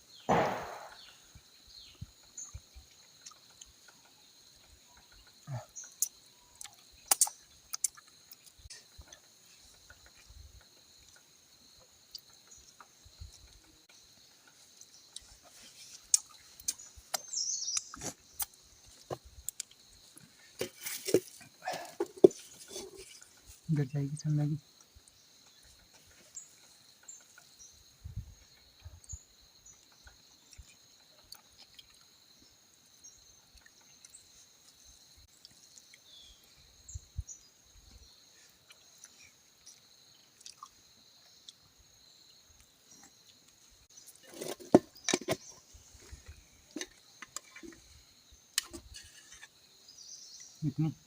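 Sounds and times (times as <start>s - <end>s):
crickets chirring: 0.0s - 51.0s.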